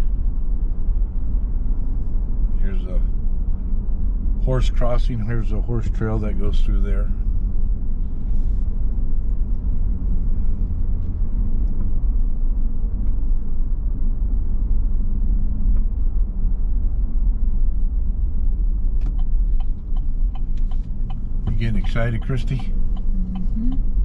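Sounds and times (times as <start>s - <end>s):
car interior road and engine rumble: 0.0s - 24.0s.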